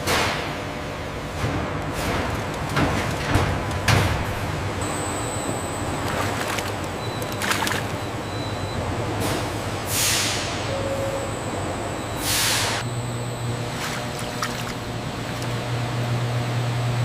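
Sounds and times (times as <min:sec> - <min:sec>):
truck engine rumble: 0:01.6 - 0:17.0.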